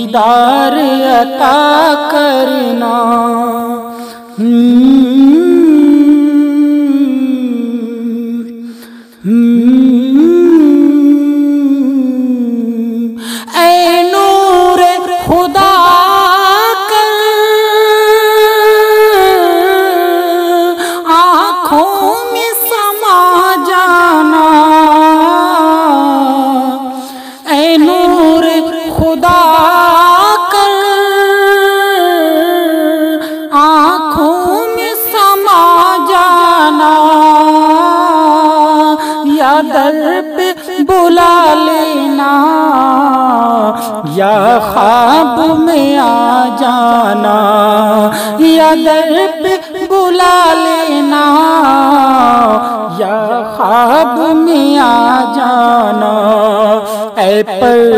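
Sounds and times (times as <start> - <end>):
man singing with vibrato: 0.0 - 57.9.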